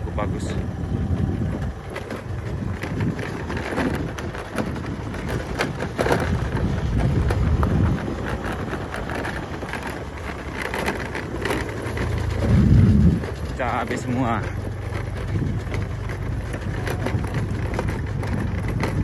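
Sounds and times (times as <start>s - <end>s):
crackles and knocks: 0.0s - 19.0s
vehicle low rumble: 0.0s - 19.0s
wind on microphone: 0.0s - 19.0s.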